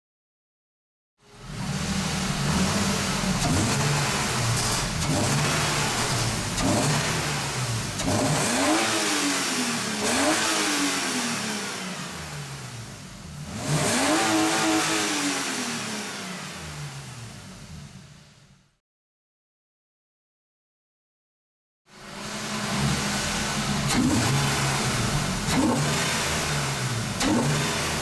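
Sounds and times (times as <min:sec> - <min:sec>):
car engine revving: 0:01.2 - 0:18.2, 0:21.9 - 0:28.0.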